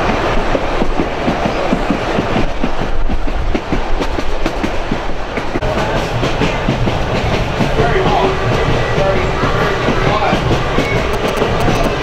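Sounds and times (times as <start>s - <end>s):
train rumbling: 0.0s - 12.0s
wheels clattering over rails: 0.0s - 12.0s.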